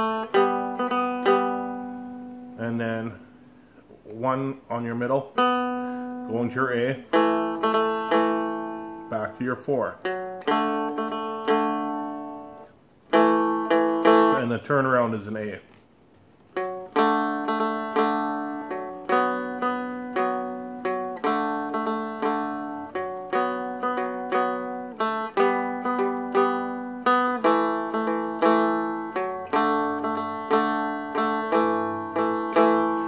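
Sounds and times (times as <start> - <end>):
stick dulcimer picked and strummed: 0.0 - 3.0, 6.8 - 14.6, 16.5 - 33.0.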